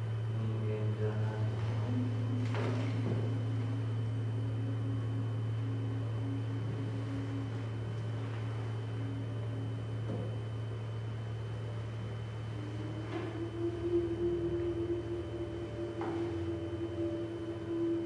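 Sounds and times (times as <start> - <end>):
electronic drone music: 1.9 - 18.0.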